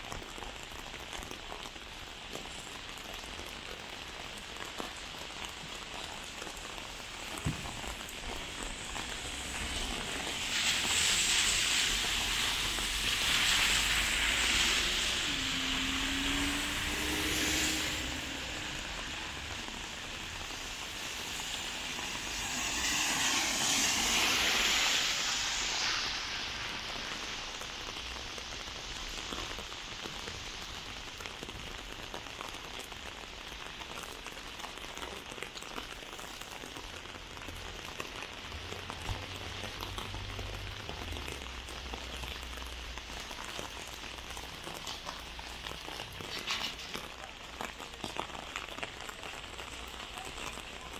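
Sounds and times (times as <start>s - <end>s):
heavy rain on pavement: 0.0s - 50.9s
vehicle passing on wet road: 0.2s - 50.9s.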